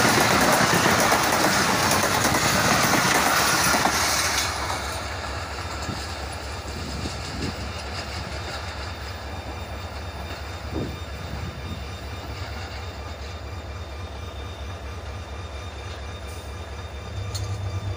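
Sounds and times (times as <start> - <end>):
train coaches rumbling on track: 0.0 - 17.9.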